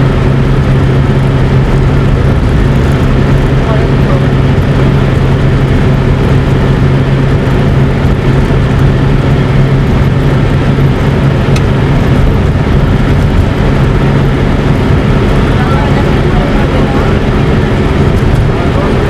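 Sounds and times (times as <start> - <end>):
engine droning: 0.0 - 19.0
rushing noise: 0.0 - 19.0.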